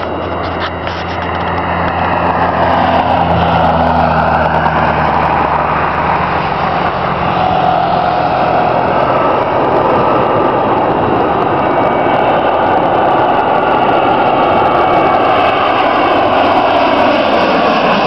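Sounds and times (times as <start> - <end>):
high whine sliding down: 0.0 - 18.0
jet engines roaring: 0.0 - 18.0.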